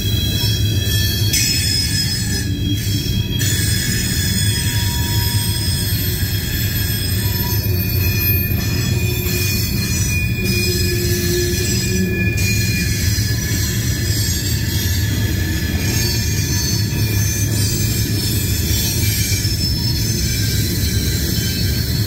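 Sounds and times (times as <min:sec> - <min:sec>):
freight train wheels rumbling on rails: 0:00.0 - 0:22.0
high-pitched wheel squeal: 0:00.0 - 0:22.0.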